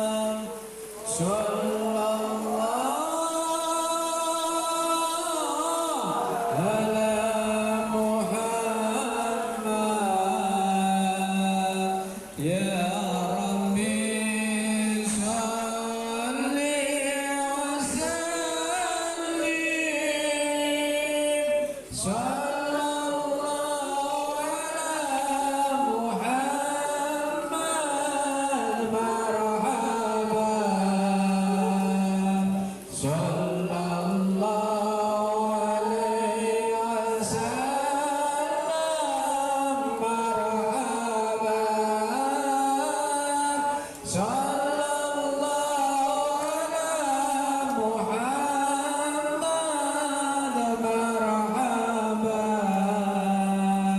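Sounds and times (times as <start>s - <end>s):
voices singing devotional chant: 0.0s - 53.9s.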